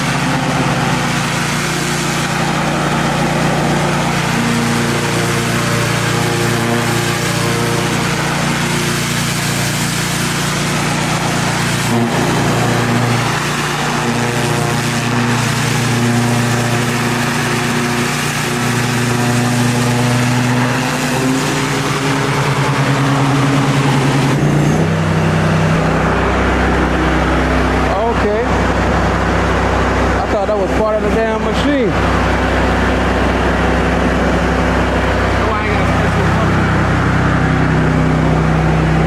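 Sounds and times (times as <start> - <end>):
pressure washer engine running: 0.0 - 39.0.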